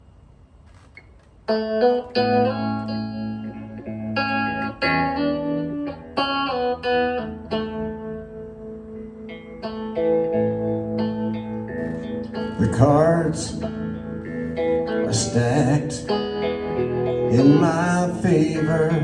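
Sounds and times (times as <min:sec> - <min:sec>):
guitar chords ringing: 0:01.4 - 0:19.0.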